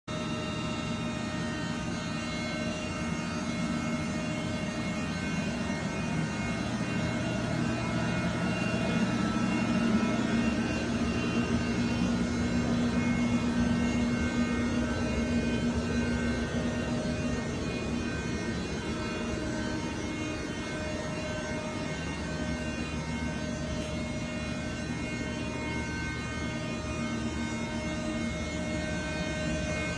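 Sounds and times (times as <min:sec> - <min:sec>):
lathe humming and whirring: 0:00.1 - 0:29.9.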